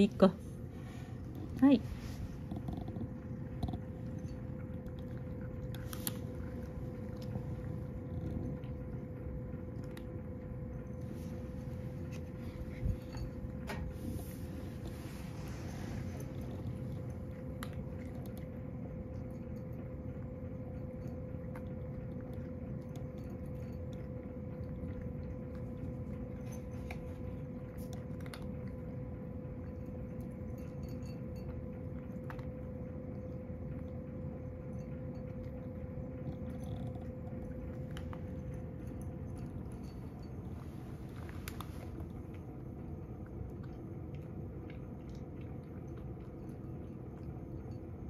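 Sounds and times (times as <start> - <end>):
faint steady hum: 0.0 - 48.0
cat crunching dry kibble: 2.2 - 30.5, 31.2 - 48.0.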